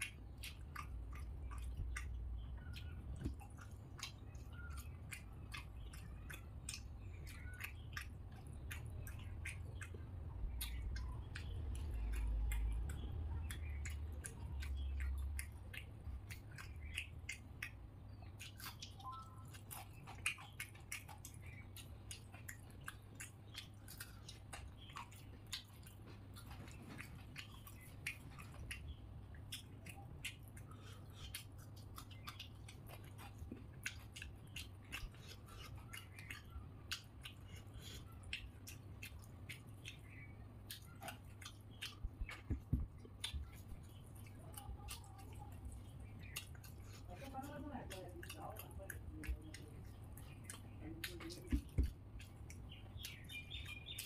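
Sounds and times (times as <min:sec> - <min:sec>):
chewing mouth sounds: 0:00.0 - 0:54.0.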